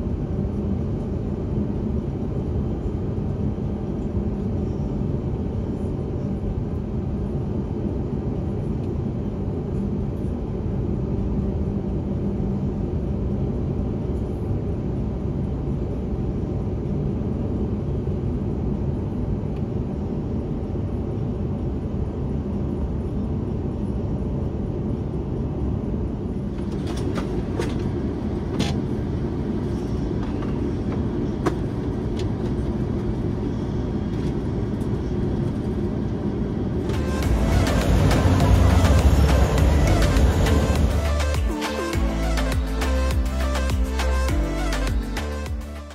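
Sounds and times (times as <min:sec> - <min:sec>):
vehicle rumble inside cabin: 0:00.0 - 0:45.9.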